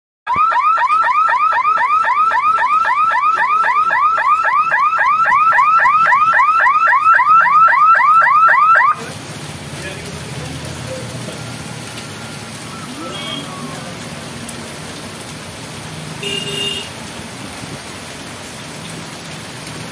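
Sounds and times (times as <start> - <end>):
heavy rain: 0.4 - 19.9
traffic moving: 0.8 - 19.9.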